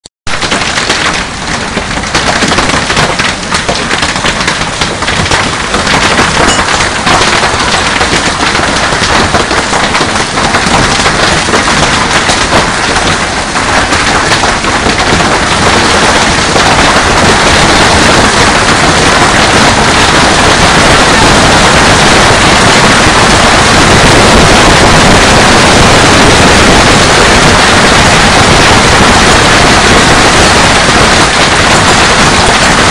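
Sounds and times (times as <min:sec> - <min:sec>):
heavy hail rattling: 0:00.3 - 0:32.9.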